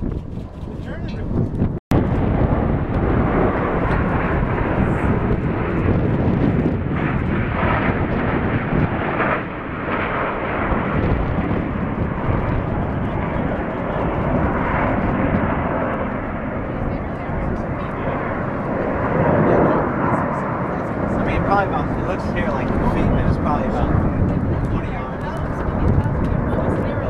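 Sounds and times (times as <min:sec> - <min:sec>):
jet noise: 0:00.0 - 0:27.0.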